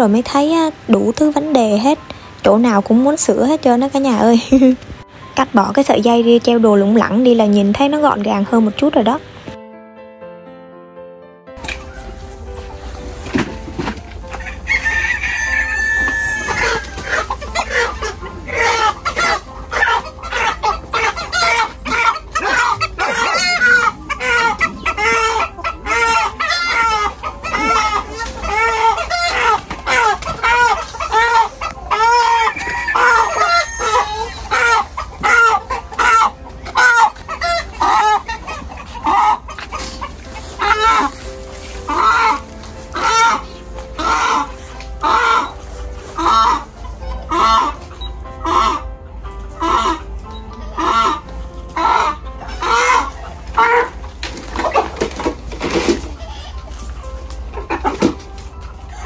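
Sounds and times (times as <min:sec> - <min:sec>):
chickens squawking and clucking: 0:00.0 - 0:09.6, 0:11.6 - 0:59.0.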